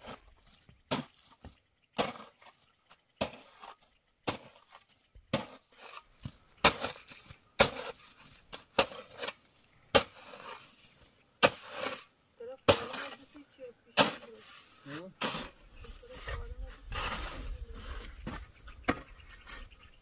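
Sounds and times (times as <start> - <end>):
shovel scraping through sand: 0.0 - 12.1, 12.7 - 18.3.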